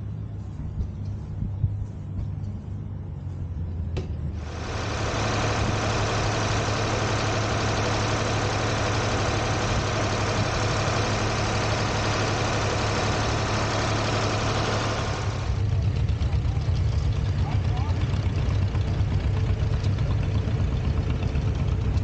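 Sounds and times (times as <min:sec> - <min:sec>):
low engine drone: 0:00.0 - 0:22.0
sawmill machinery noise: 0:04.3 - 0:22.0.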